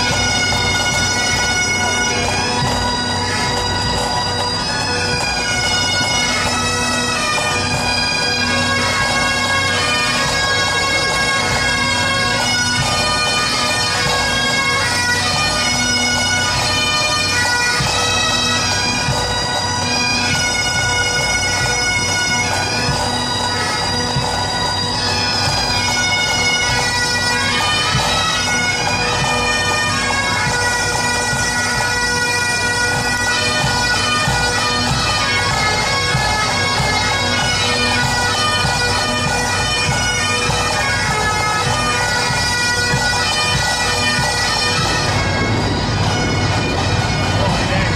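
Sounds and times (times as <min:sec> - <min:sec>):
bagpipes playing: 0:00.0 - 0:47.9.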